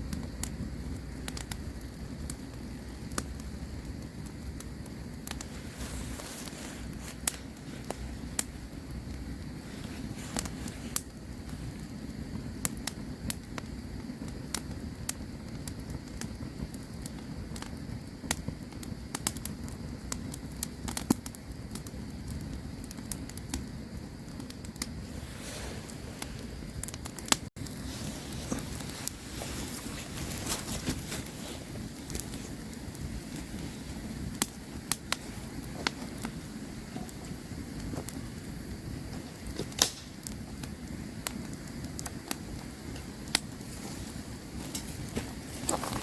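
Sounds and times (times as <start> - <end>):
campfire crackling and popping: 0.0 - 46.0
low rumble of burning fire: 0.0 - 46.0.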